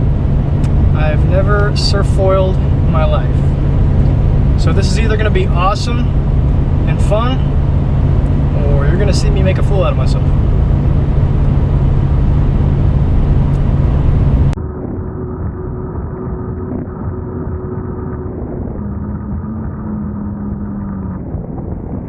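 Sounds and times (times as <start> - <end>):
muffled engine drone: 0.0 - 22.0
vehicle engine humming: 0.0 - 22.0.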